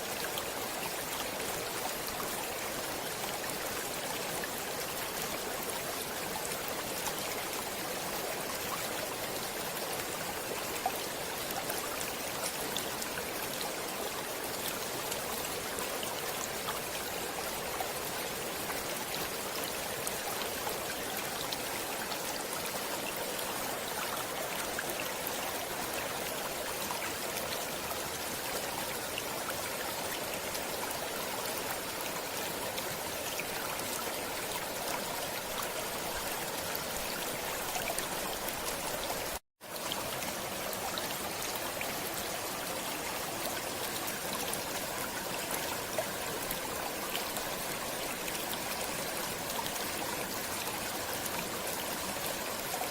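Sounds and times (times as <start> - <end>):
stream running water: 0.0 - 52.9.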